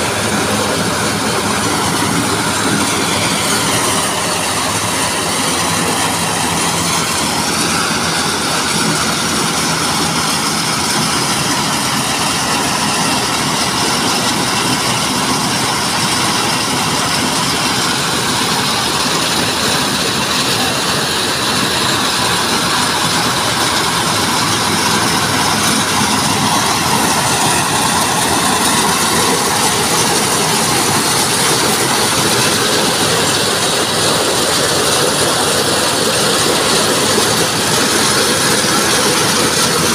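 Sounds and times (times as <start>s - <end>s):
corn sheller engine running: 0.0s - 39.9s.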